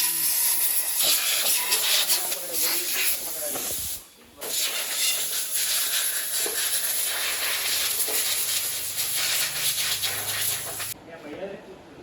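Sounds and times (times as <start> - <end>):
pressurised jet hissing: 0.2 - 11.0.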